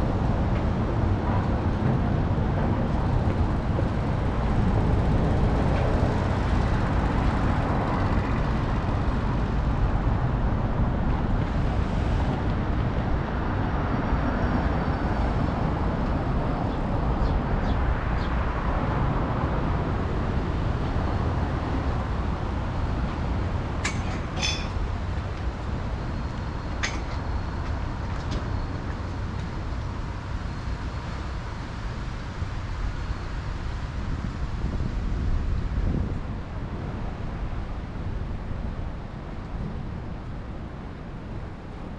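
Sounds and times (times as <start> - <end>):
city road traffic rumble: 0.0 - 41.9.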